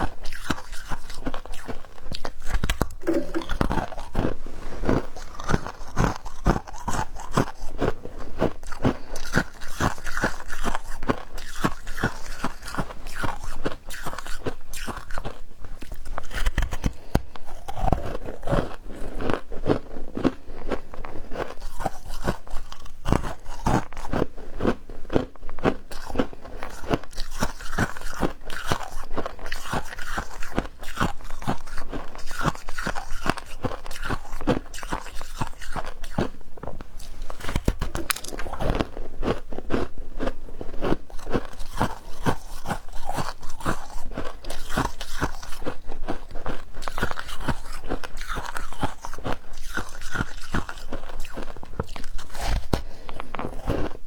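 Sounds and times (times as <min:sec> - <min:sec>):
ice being chewed and crunched: 0:00.0 - 0:54.0.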